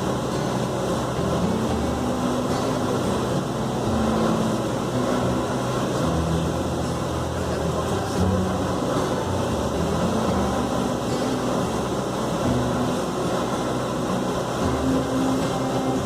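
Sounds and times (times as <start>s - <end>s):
light aircraft engine droning: 0.0s - 16.0s
rushing airflow: 0.0s - 16.0s.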